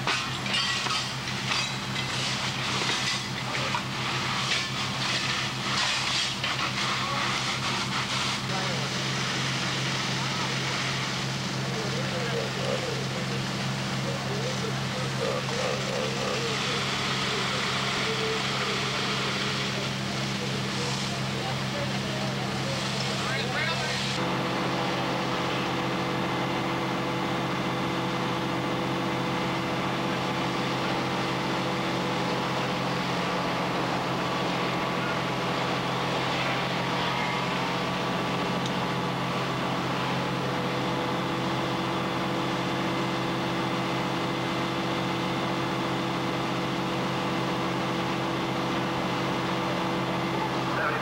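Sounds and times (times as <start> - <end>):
fire engine running: 0.0 - 51.0.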